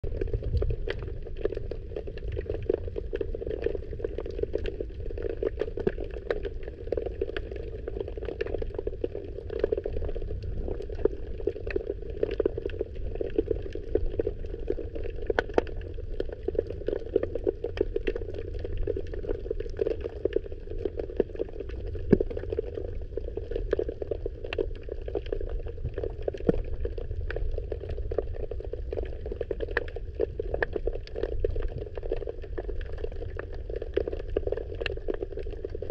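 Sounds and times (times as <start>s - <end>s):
low rumble of moving water: 0.0s - 35.9s
small clicks and crackles: 0.0s - 35.9s.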